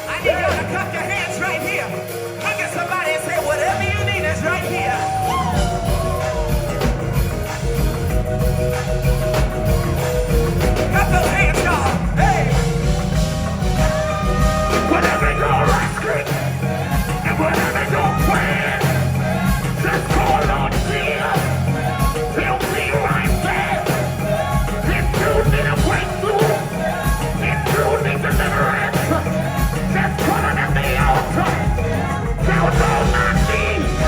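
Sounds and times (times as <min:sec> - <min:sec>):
gospel band music: 0:00.0 - 0:34.0
people singing and shouting: 0:00.0 - 0:34.0.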